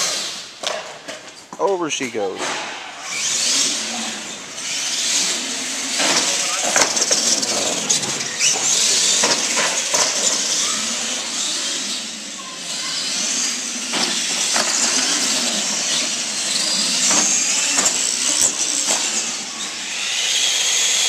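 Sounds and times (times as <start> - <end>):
toy truck motors whining: 2.9 - 21.0.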